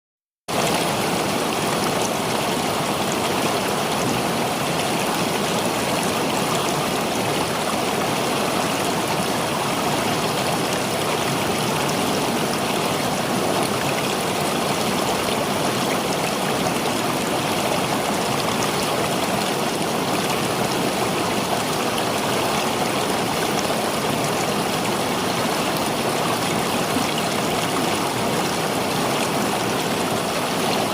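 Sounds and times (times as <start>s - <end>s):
river water flowing: 0.5s - 30.9s.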